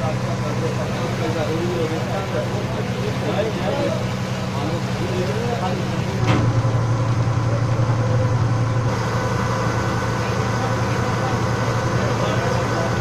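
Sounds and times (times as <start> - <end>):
ferry engine humming: 0.0 - 13.0.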